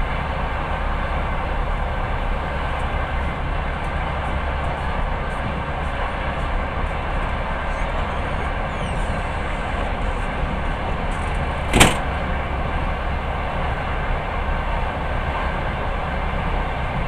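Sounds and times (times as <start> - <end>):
train rumbling at speed: 0.0 - 17.0.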